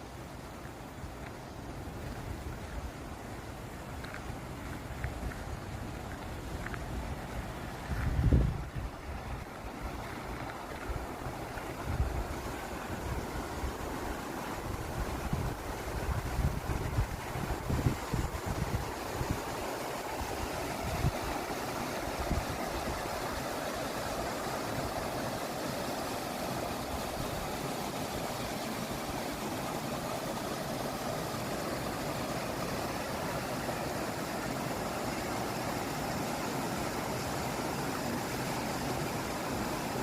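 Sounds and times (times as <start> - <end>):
stream flowing: 0.0 - 40.0.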